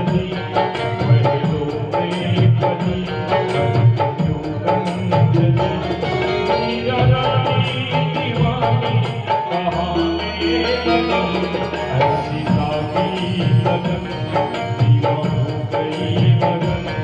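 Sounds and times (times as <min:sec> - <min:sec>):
hand drum rhythm: 0:00.0 - 0:17.0
sustained melodic instrument: 0:00.0 - 0:17.0.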